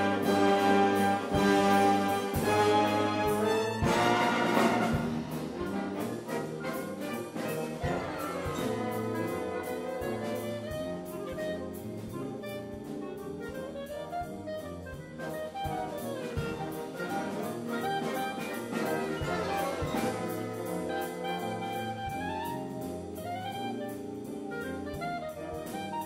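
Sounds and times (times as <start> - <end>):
brass band playing swing jazz: 0.0 - 26.0.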